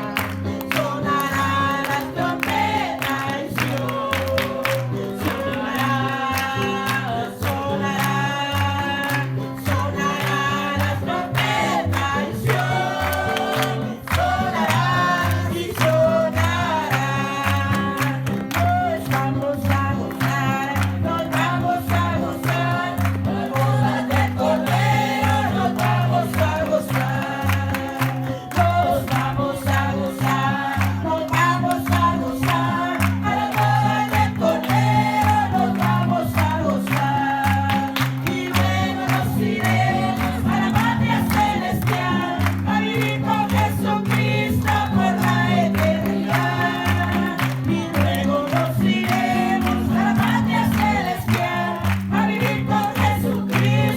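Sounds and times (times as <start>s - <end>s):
choir singing worship songs: 0.0s - 53.9s
instrumental backing with bass: 0.0s - 53.9s.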